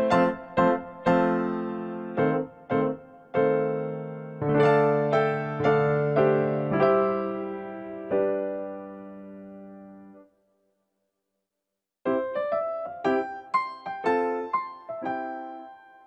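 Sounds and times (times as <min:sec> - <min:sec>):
keyboard piano music: 0:00.0 - 0:10.3, 0:12.1 - 0:16.0.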